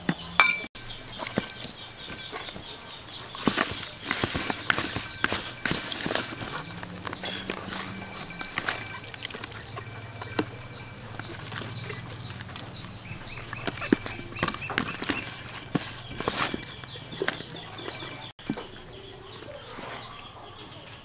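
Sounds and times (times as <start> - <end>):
birds chirping: 0.0 - 21.0
hands kneading raw chicken: 1.0 - 20.2.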